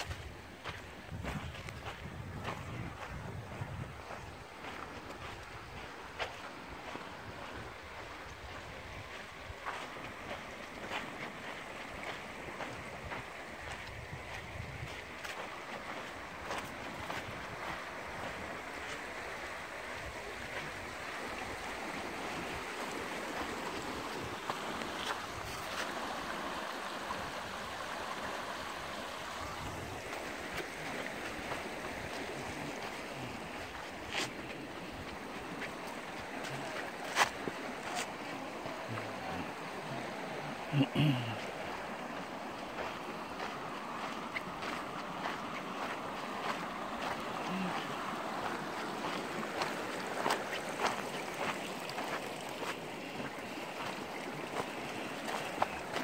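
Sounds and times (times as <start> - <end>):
footsteps crunching on gravel: 0.0 - 8.0, 8.6 - 19.1, 22.9 - 26.3, 29.3 - 40.1, 40.9 - 56.0
creek running over rocks: 0.0 - 56.0.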